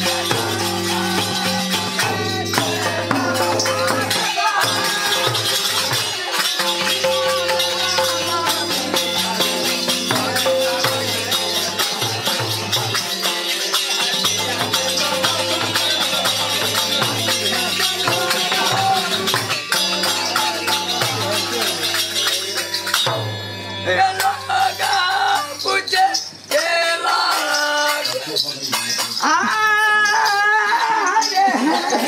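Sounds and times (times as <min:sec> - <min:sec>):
hand drum beating: 0:00.0 - 0:25.9
jingling hand percussion: 0:00.0 - 0:32.0.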